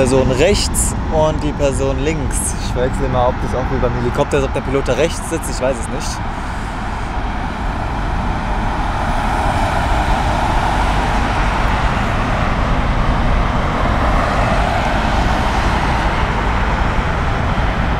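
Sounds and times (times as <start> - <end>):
jet engines rushing: 0.0 - 17.9.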